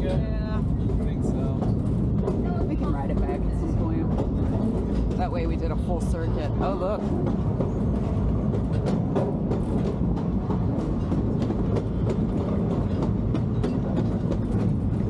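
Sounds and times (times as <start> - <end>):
railroad coach rumbling: 0.0 - 15.0
wheels clicking and knocking: 0.0 - 15.0.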